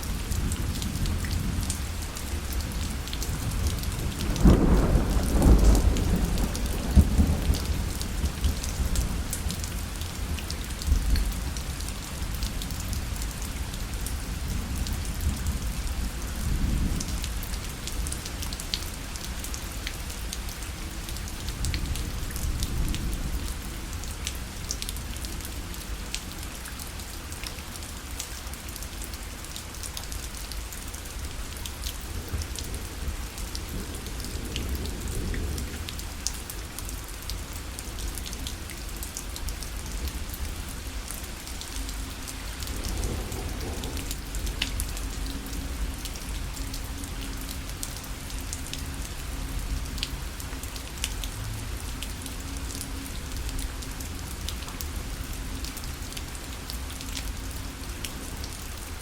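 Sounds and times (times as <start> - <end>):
rain pattering on a parasol: 0.0 - 59.0.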